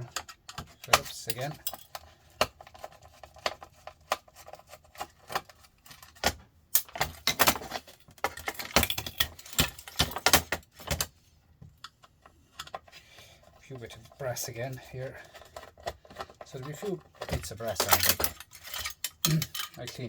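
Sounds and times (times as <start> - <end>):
small metal parts rattling: 0.0 - 11.1, 12.5 - 20.0.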